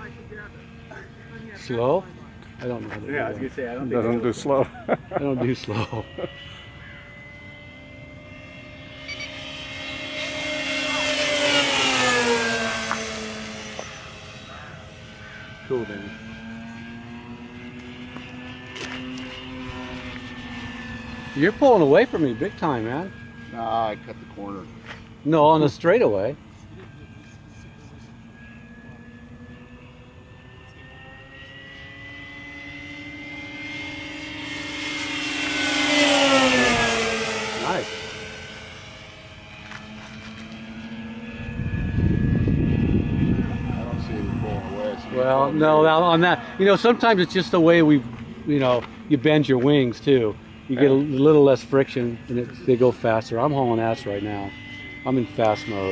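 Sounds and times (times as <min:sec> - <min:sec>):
model plane motors whining: 0:00.0 - 0:55.9.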